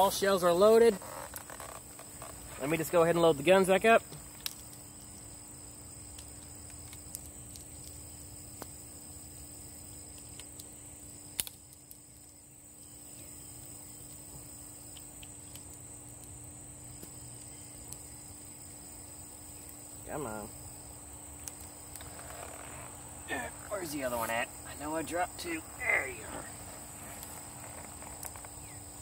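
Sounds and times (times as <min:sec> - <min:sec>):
insect trill: 0:00.0 - 0:29.0
insects buzzing: 0:00.0 - 0:29.0.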